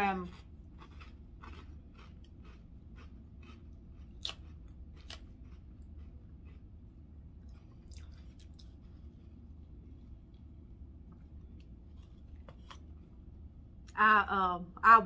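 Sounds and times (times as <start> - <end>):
chewing crunchy salad: 0.0 - 14.0.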